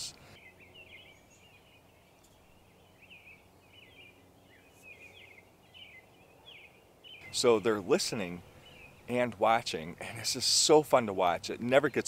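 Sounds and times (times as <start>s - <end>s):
outdoor background hiss: 0.0s - 12.0s
songbirds chirping: 0.0s - 12.0s.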